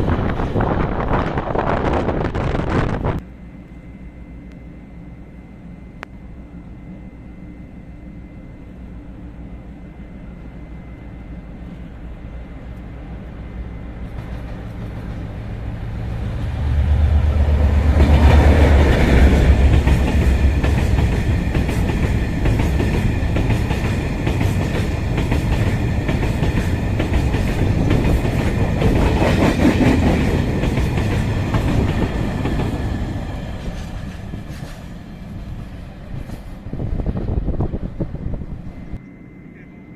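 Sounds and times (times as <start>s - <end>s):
train passing rumble: 0.0s - 39.9s.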